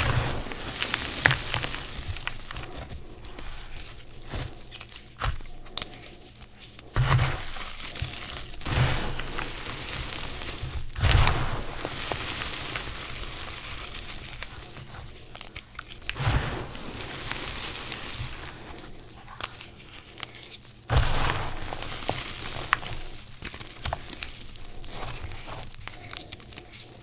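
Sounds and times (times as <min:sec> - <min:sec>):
hands crushing chalk: 0:00.0 - 0:27.0.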